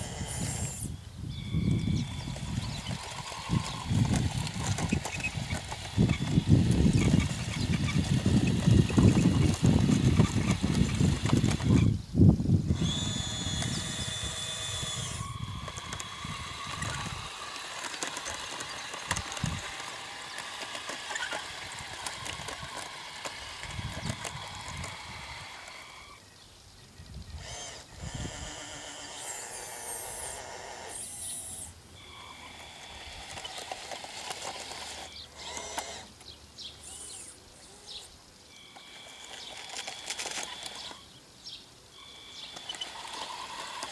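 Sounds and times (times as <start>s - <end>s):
small electric motors whining: 0.0s - 43.9s.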